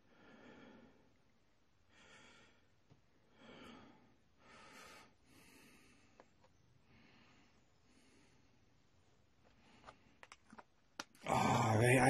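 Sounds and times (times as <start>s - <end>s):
soft breaths: 0.0s - 11.9s.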